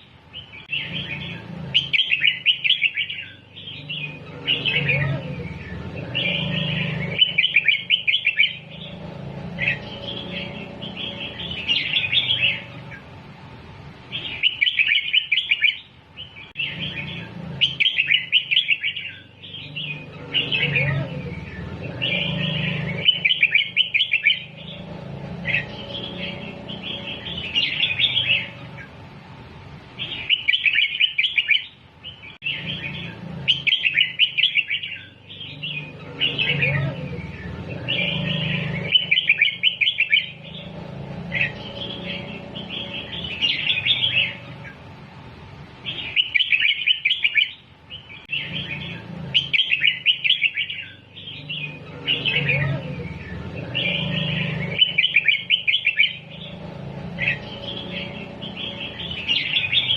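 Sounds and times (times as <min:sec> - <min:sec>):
bird singing warbled phrases: 0:00.0 - 0:59.9.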